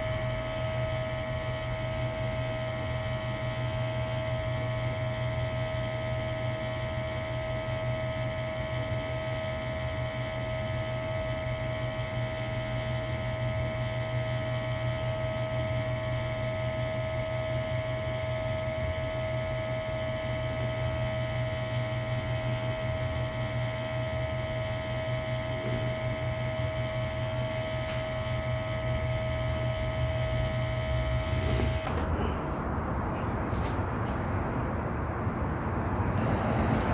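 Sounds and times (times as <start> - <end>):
droning hum: 0.0 - 36.9.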